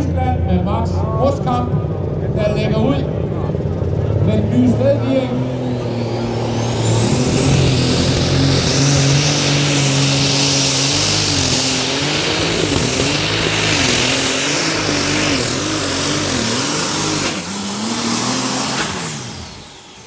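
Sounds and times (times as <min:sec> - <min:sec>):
tractor engine running flat out: 0:00.0 - 0:20.0.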